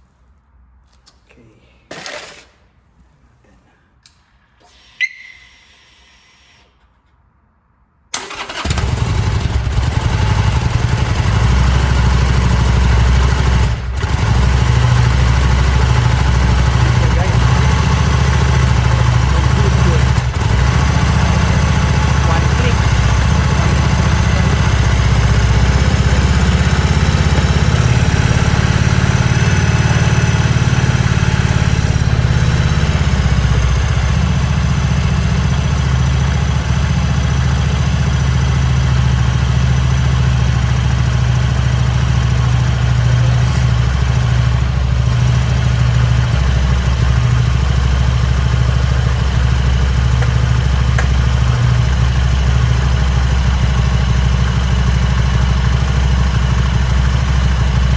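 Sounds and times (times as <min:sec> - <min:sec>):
motorcycle engine idling: 0:08.2 - 0:57.9.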